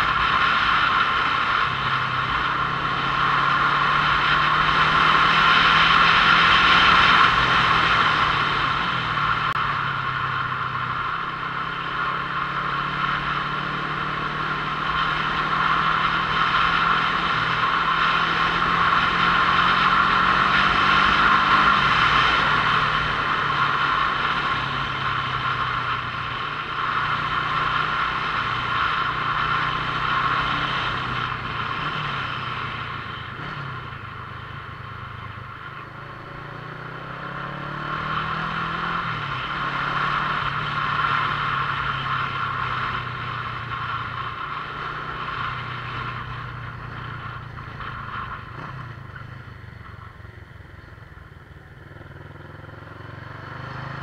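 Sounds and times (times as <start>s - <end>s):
motorcycle engine running: 0.0s - 54.0s
steady rushing noise: 0.0s - 54.0s.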